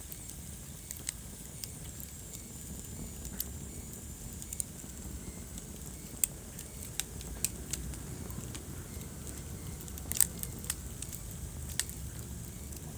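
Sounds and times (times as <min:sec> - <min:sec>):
low rumble of burning: 0:00.0 - 0:12.9
wood fire crackling: 0:00.0 - 0:12.9.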